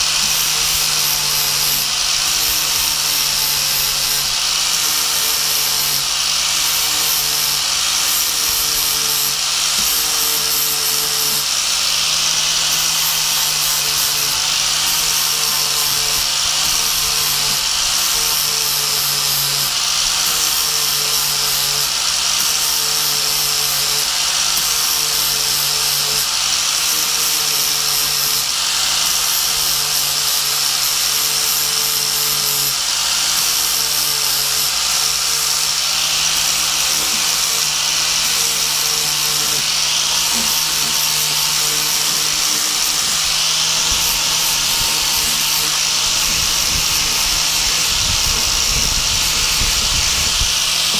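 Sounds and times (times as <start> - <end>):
angle grinder grinding metal: 0.0 - 50.9.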